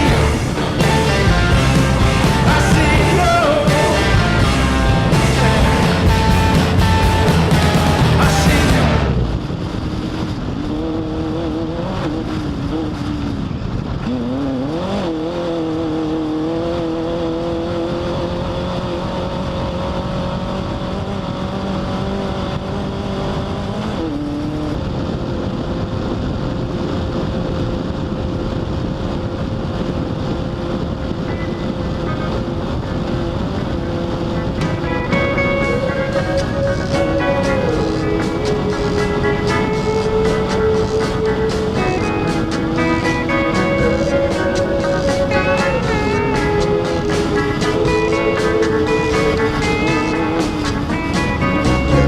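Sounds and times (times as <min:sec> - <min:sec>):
constant rough noise: 0:00.0 - 0:52.0
race car engine at high revs: 0:00.0 - 0:52.0.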